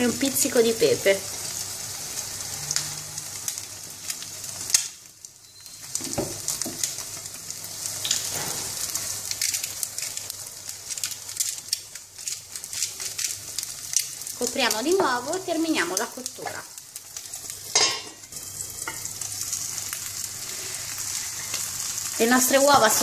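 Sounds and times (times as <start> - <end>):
eggs sizzling in a pan: 0.0 - 23.0.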